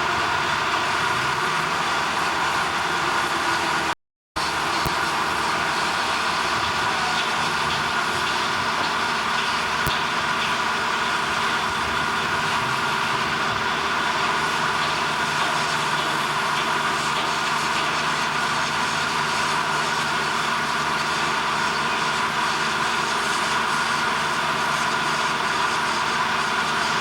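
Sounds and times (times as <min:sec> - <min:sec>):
industrial machinery drone: 0:00.0 - 0:27.0.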